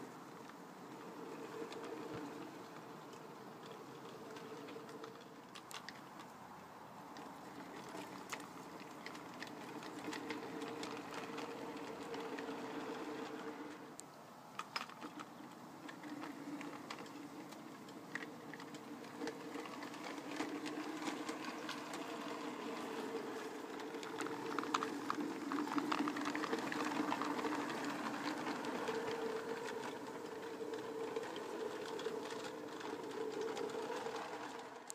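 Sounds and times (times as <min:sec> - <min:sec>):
model train motor hum: 0:00.0 - 0:34.9.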